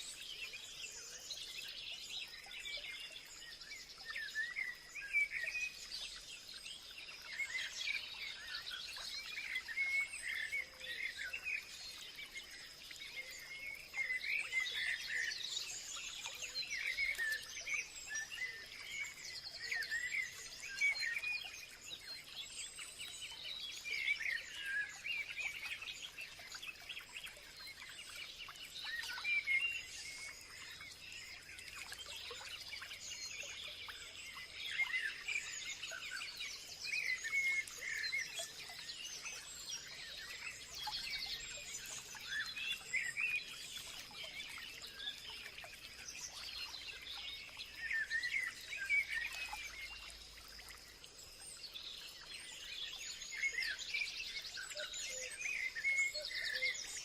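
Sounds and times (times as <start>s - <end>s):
small birds chirping chorus: 0.0s - 57.0s.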